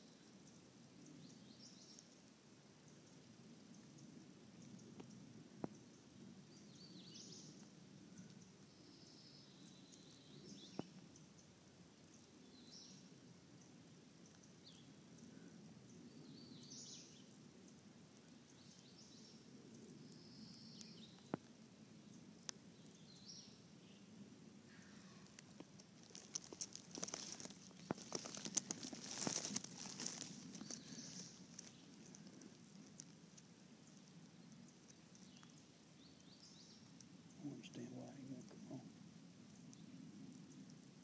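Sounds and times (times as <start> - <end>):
small birds singing: 0.0 - 41.0.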